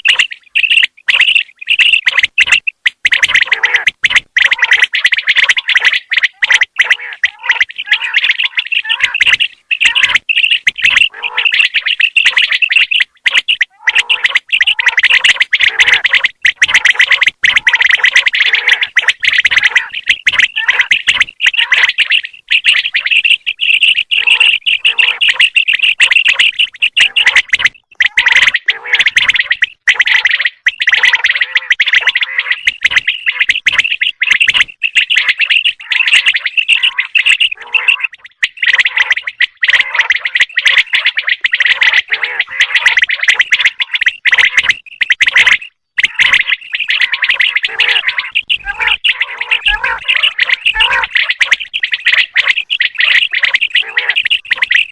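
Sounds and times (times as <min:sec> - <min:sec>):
quail calling: 0:00.0 - 0:54.9.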